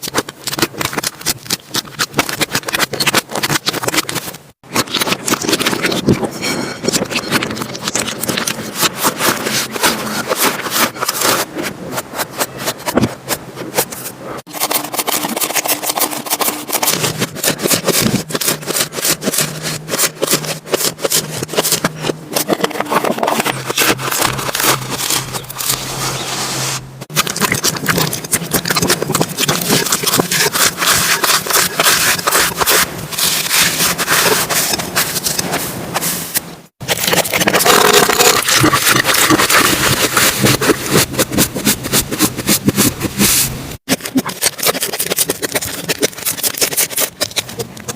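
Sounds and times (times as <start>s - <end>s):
wet rubbing: 0.0s - 47.9s.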